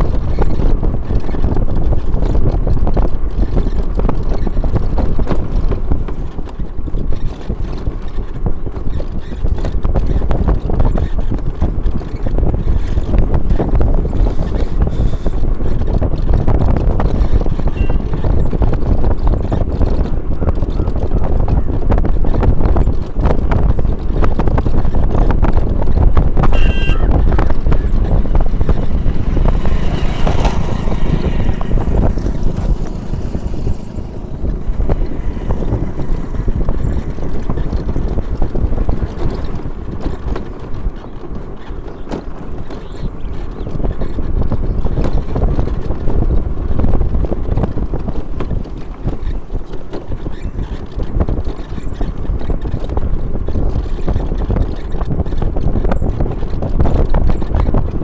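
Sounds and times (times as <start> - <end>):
vehicle rumble: 0.0 - 58.0
wind rushing over microphone: 0.0 - 58.0.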